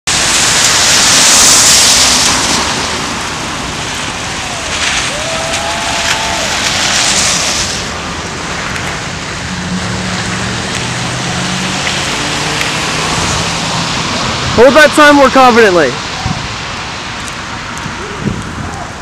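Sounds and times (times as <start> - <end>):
steady rain: 0.0 - 19.0
tyres hissing on wet road: 0.1 - 19.0.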